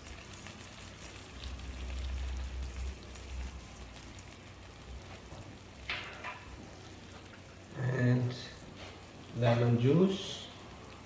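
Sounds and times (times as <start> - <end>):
spices sizzling in a pan: 0.0 - 11.0.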